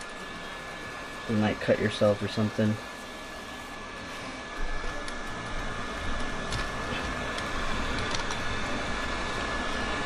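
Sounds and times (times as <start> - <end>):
hot-air blower whining: 0.0 - 10.0.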